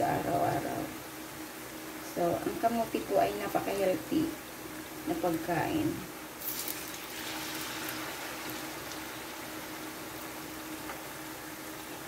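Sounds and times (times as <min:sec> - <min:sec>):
food sizzling in hot oil: 0:00.1 - 0:12.0.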